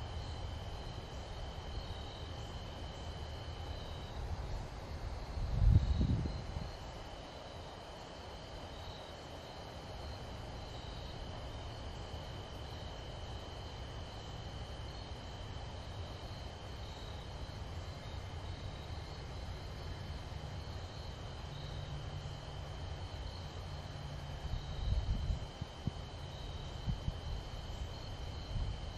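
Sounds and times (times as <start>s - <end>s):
faint low hum: 0.0s - 28.9s
insects trilling: 0.0s - 28.9s.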